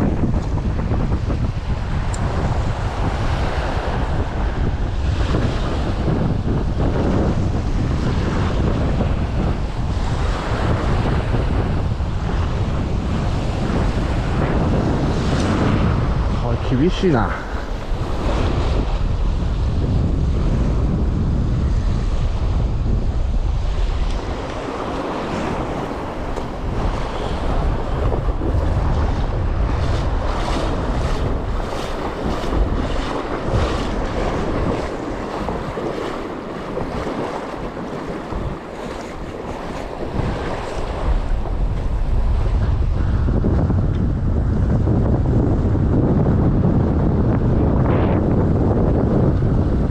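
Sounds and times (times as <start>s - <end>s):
waves splashing on shore: 0.0s - 43.5s
wind buffeting microphone: 0.0s - 49.9s.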